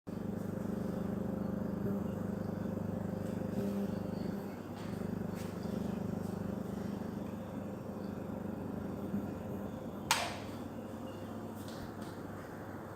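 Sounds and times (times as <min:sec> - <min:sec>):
ceiling fan motor hum: 0:00.1 - 0:12.9.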